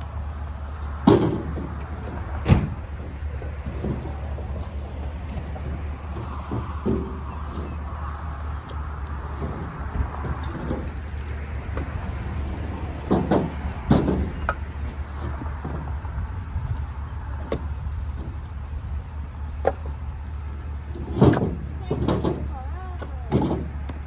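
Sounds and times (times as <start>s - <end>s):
vehicle engine hum: 0.0s - 24.0s
firewood knocking and thudding: 0.8s - 24.0s.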